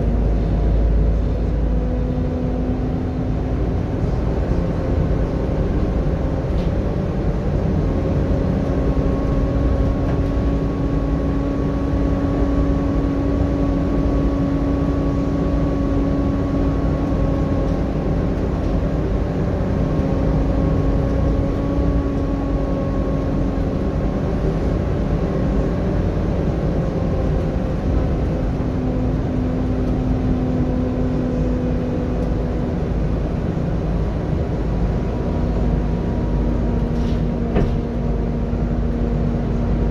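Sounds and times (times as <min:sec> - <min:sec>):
bus diesel engine running: 0:00.0 - 0:39.9
road noise rumble: 0:00.0 - 0:39.9.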